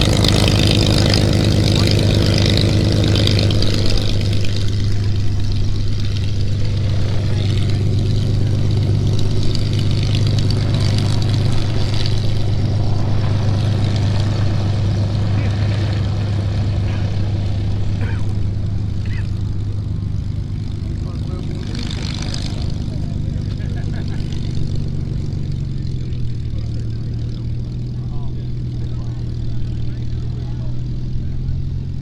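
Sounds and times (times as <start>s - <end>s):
piston aero engine droning: 0.0s - 32.0s.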